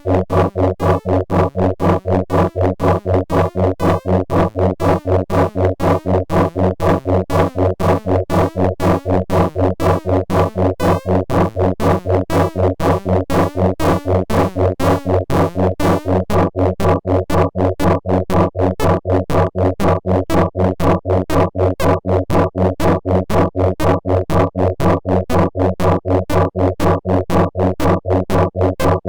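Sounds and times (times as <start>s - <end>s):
rapid pulsing synthesizer notes: 0.0s - 29.0s
steady low bass tone: 0.0s - 29.0s.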